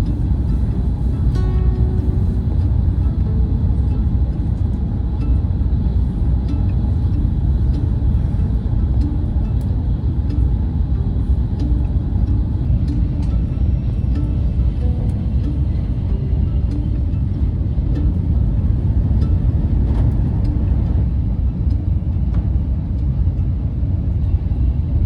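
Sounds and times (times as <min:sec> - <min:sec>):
train rumble from inside cabin: 0:00.0 - 0:25.0.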